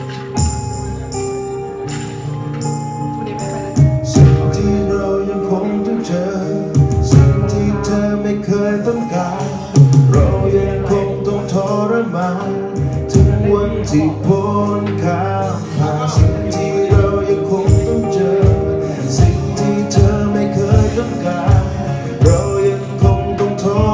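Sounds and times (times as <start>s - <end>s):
bass: 0.0s - 23.9s
drums: 0.0s - 23.9s.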